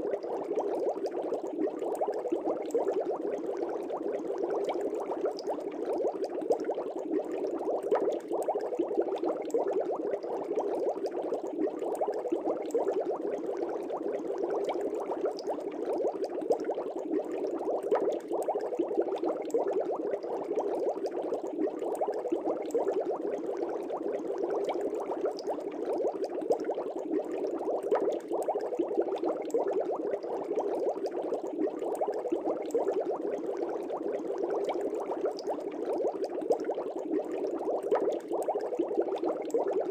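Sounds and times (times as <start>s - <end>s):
air bubbling in fish tank: 0.0s - 39.9s.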